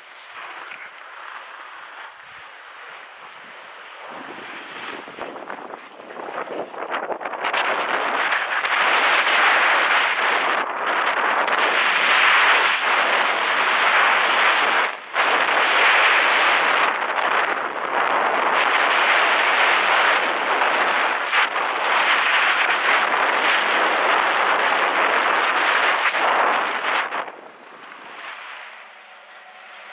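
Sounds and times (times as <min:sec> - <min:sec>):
skis sliding on packed snow: 0:00.0 - 0:29.9
wind over microphone: 0:00.0 - 0:29.9.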